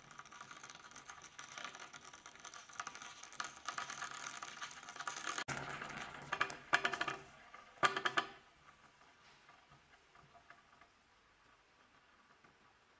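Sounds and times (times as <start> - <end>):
hot metal crackling in liquid: 0.0 - 12.9.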